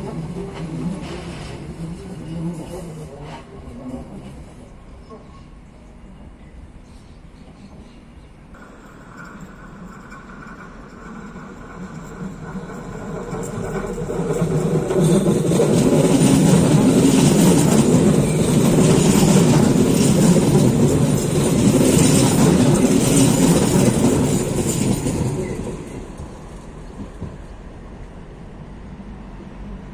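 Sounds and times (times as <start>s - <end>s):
train wheels on rails: 0.0s - 5.6s, 7.4s - 29.9s.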